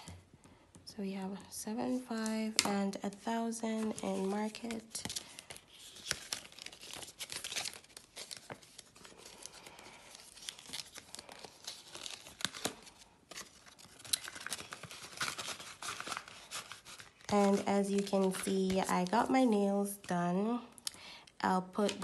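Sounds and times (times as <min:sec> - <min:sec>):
paper banknotes crinkling: 0:02.1 - 0:20.1
envelope being handled: 0:02.2 - 0:20.1.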